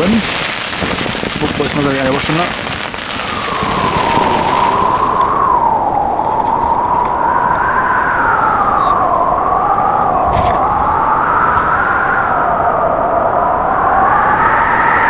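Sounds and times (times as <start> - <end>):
wind blowing against tent: 0.0 - 15.0
wind whistling: 0.0 - 15.0.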